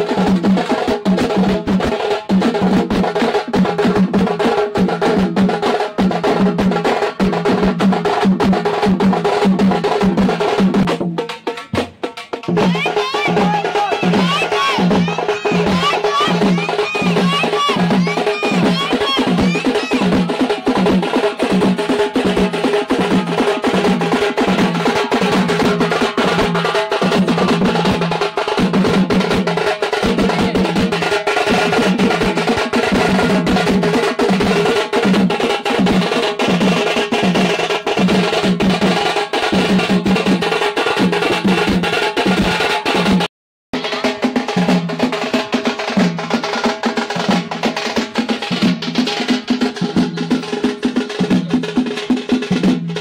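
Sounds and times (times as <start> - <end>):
drums beaten fast: 0.0 - 53.0.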